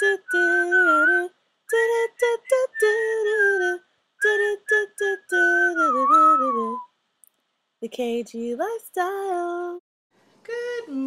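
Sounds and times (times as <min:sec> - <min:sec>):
woman singing unaccompanied: 0:00.0 - 0:06.8, 0:07.8 - 0:09.8, 0:10.4 - 0:11.0.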